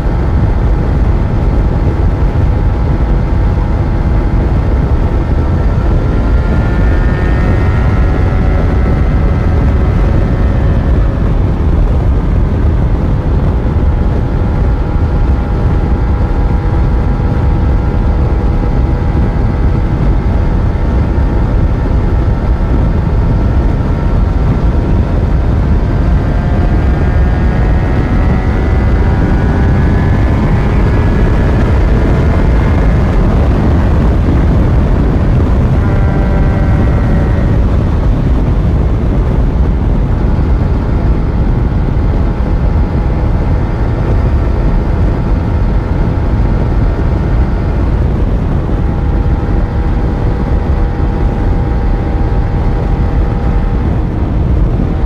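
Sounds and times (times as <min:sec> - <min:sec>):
heavy wind: 0:00.0 - 0:55.0
motorcycle engine accelerating: 0:00.0 - 0:55.0
road rumble: 0:00.0 - 0:55.0.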